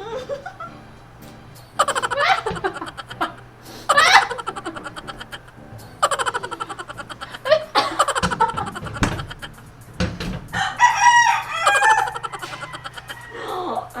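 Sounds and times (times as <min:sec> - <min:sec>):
rooster crowing: 0:00.0 - 0:14.0.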